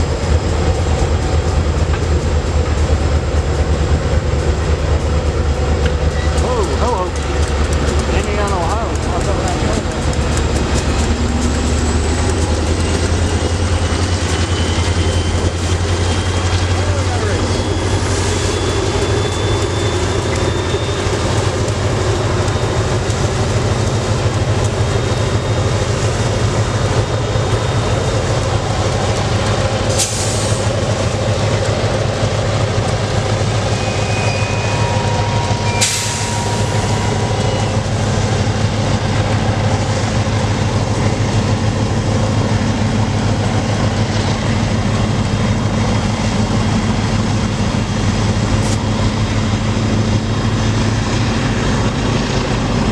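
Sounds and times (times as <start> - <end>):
freight train rumbling past: 0.0 - 52.9
train wheel squeals: 4.4 - 52.9.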